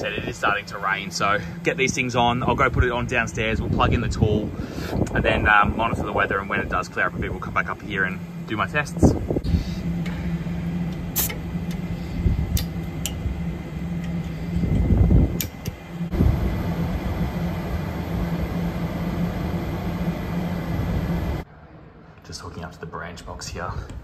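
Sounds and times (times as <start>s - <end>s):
fan rushing: 0.0s - 21.5s
compressor hum: 0.0s - 24.0s.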